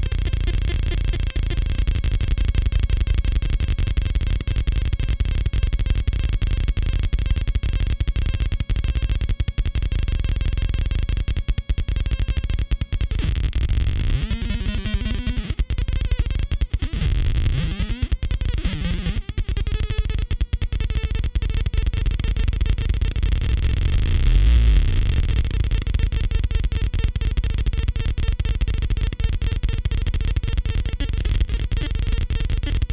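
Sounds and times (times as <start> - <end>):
gritty stuttering electronic buzz: 0.0 - 32.9.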